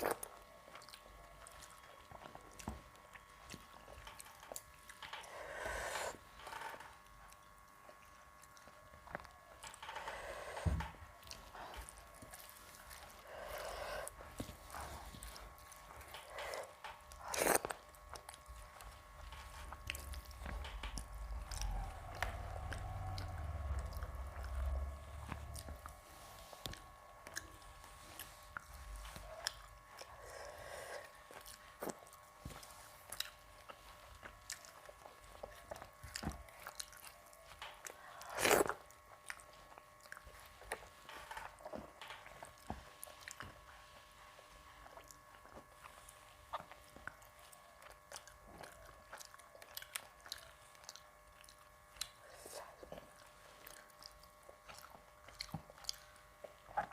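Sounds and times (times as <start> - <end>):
person chewing: 0.0 - 56.9.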